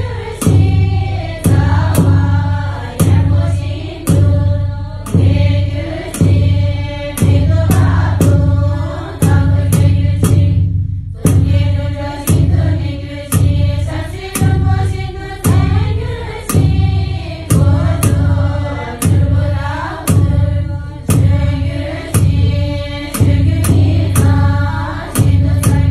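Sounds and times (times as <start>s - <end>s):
hand cymbals clashing: 0.0s - 25.9s
large drum struck: 0.0s - 25.9s
women chanting in unison: 0.0s - 25.9s.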